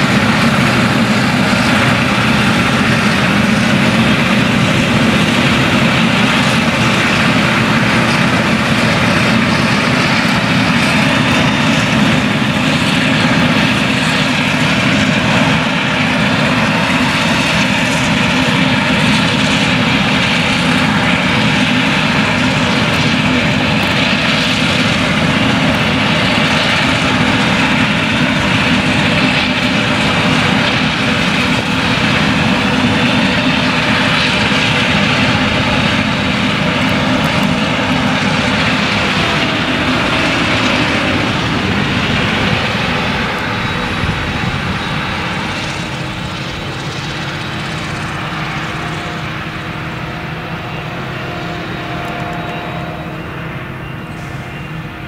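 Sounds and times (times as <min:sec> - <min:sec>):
harvester engine drone: 0:00.0 - 0:55.0.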